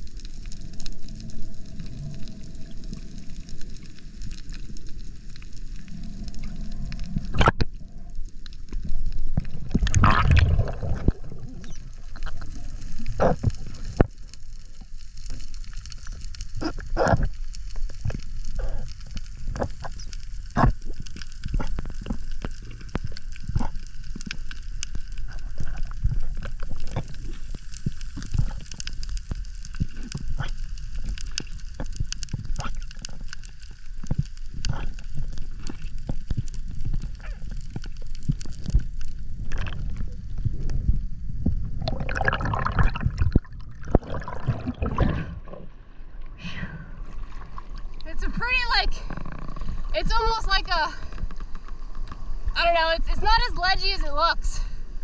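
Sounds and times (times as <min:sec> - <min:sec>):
underwater clicks and crackling: 0:00.0 - 0:54.3
underwater bubbling and rumble: 0:00.0 - 0:55.0.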